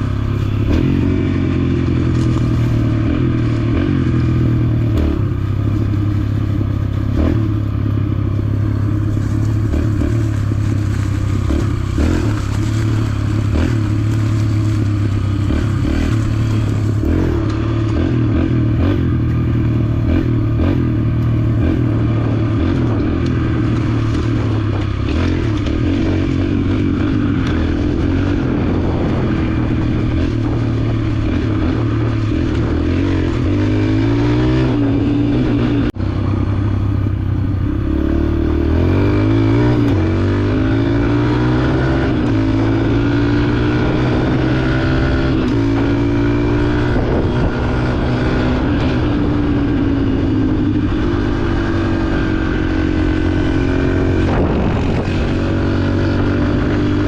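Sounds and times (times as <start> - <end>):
dirt bike engine accelerating: 0.0 - 57.0.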